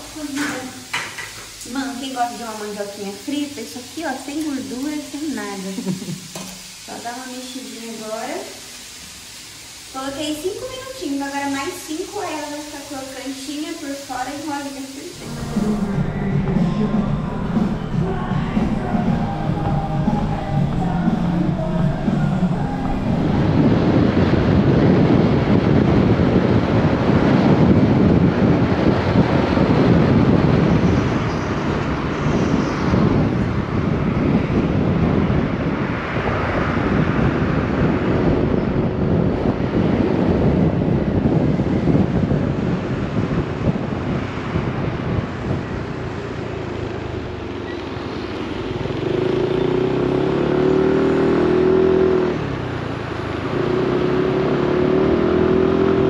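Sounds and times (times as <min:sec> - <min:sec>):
road noise: 0:00.0 - 0:56.0
wind rushing over microphone: 0:09.9 - 0:56.0.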